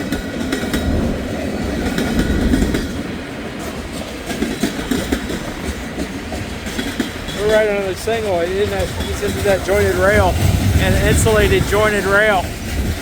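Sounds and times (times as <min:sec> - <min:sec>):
train low rumble: 0:00.0 - 0:13.0
train wheels clacking over rails: 0:00.0 - 0:13.0
wind buffeting microphone: 0:00.0 - 0:13.0.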